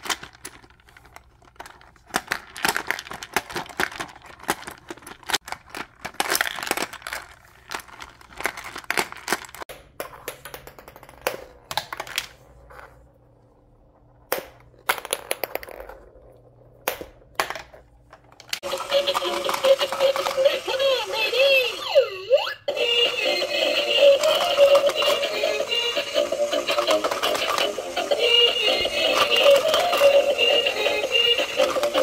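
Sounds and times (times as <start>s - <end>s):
plastic balls rattling: 0.0s - 13.2s, 13.8s - 21.7s, 22.8s - 32.0s.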